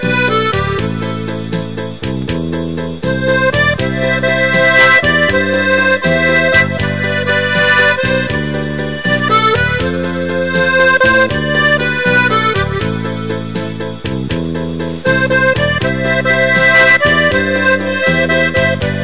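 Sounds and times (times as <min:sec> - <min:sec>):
accordion music: 0:00.0 - 0:19.0.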